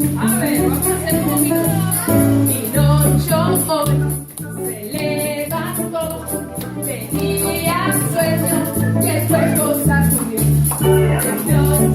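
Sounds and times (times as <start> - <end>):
person singing: 0.0 - 11.9
plucked bass line: 0.0 - 11.9
shaker keeping beat: 0.0 - 11.9.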